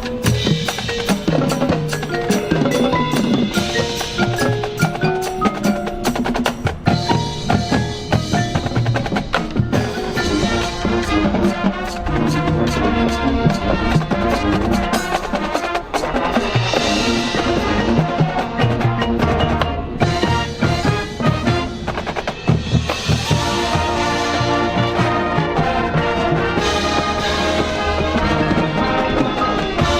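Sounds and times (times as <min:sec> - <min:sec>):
marching band winds: 0:00.0 - 0:29.9
percussion hits: 0:00.0 - 0:29.9.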